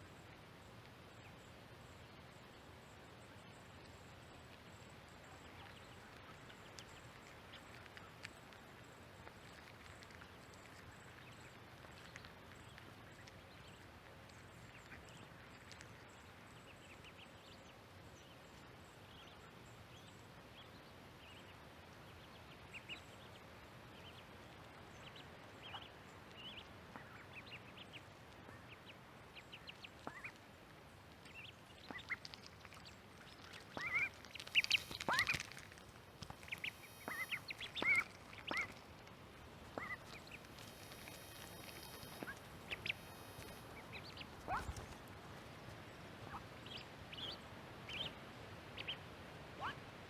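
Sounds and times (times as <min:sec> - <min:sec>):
background hiss: 0:00.0 - 0:50.0
ducklings peeping: 0:05.2 - 0:30.4, 0:31.2 - 0:45.1, 0:45.7 - 0:49.8.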